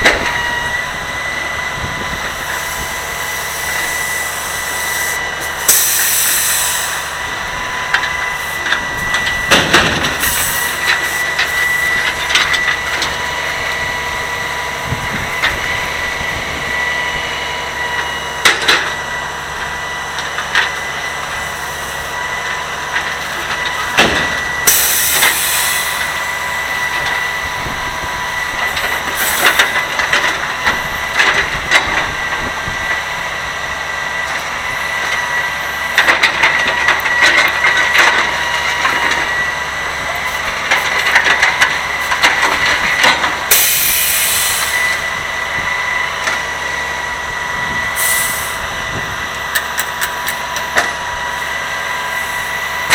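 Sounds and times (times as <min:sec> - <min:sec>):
truck engine and hydraulics whine: 0:00.0 - 0:52.9.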